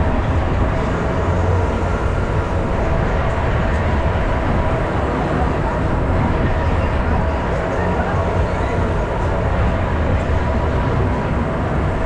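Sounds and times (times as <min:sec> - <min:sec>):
ride running rumble: 0:00.0 - 0:12.0.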